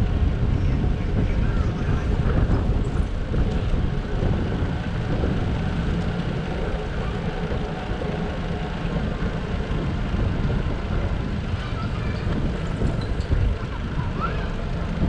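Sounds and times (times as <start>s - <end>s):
tyre and road noise: 0.0s - 15.0s
wind buffeting microphone: 0.0s - 15.0s.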